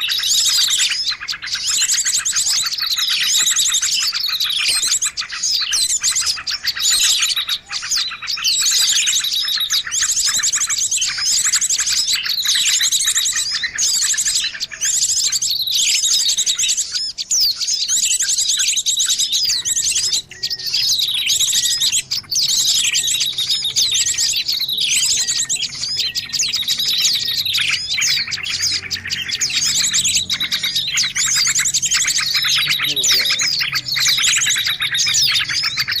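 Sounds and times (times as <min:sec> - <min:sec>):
chorus of small birds chirping: 0:00.0 - 0:36.0.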